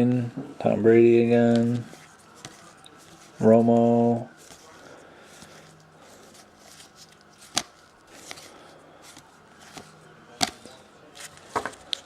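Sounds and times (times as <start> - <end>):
cards being flipped: 1.5 - 12.0.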